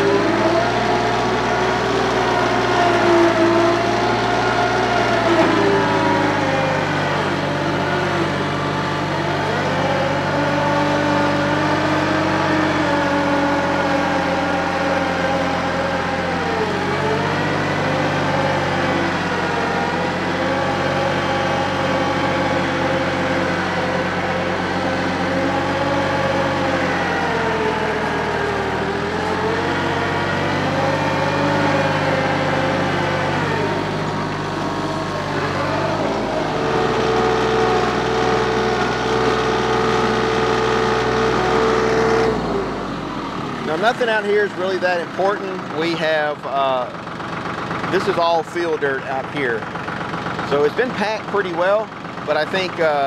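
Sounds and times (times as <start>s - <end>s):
diesel tractor engine running: 0.0s - 53.0s.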